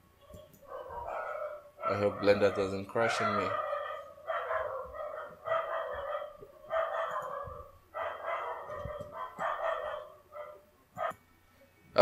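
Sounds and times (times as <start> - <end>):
animal calling: 0.2 - 10.6.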